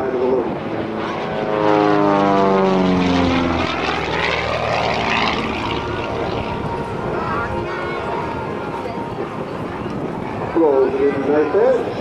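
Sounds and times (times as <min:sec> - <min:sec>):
propeller plane engine passing: 0:00.0 - 0:12.0
rushing drone: 0:00.0 - 0:12.0.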